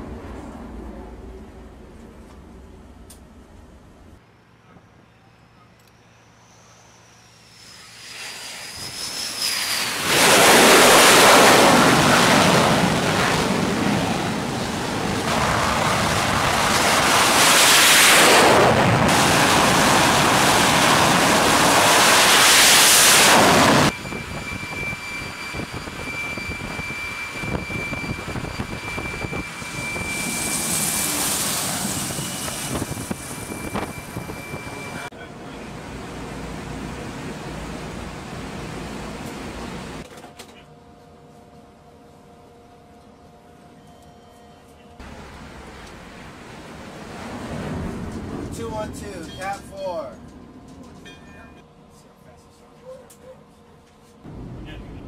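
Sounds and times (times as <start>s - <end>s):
military jet engines roaring: 0.0s - 4.2s, 5.9s - 40.1s, 45.0s - 51.1s, 54.3s - 55.0s
aircraft engine high whine: 0.0s - 52.4s, 54.2s - 55.0s.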